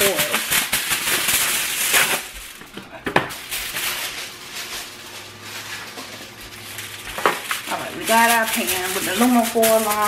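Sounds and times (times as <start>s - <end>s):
aluminum foil crinkling: 0.0s - 10.0s.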